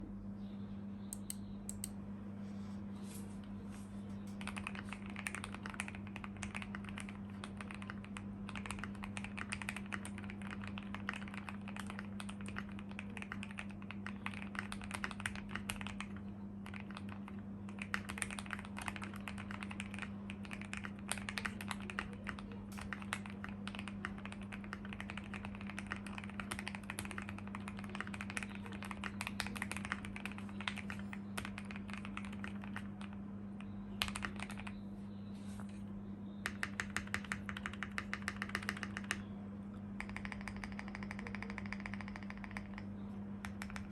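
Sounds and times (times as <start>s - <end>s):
steady low hum: 0.0s - 43.9s
typing on mechanical keyboard: 4.3s - 34.8s, 36.4s - 39.2s, 40.0s - 43.9s.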